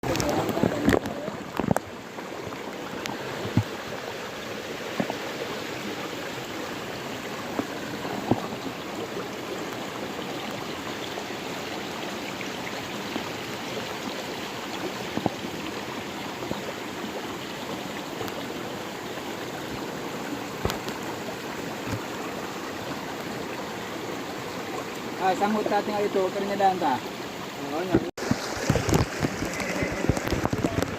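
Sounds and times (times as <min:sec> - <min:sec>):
stream water flowing: 0:00.0 - 0:30.9.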